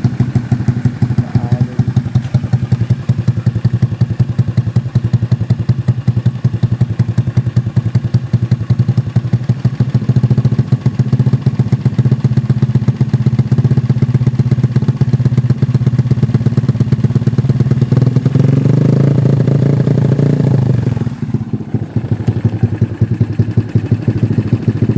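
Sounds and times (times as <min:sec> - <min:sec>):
motorcycle engine idling: 0:00.0 - 0:24.9
motorcycle engine revving: 0:00.0 - 0:24.9.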